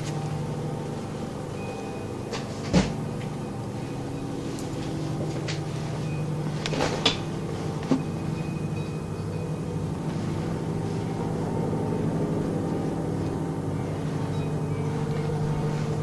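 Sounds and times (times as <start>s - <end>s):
steady low drone: 0.0s - 16.0s.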